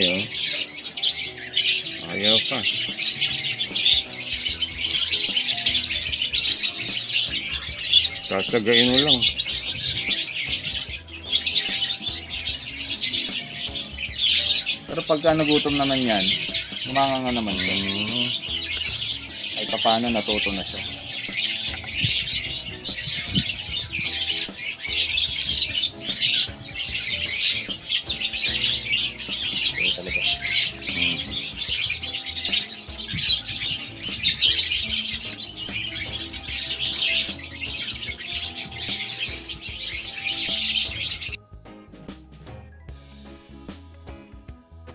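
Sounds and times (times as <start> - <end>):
bird chicks chirping: 0.0 - 41.4
background music: 0.0 - 44.9.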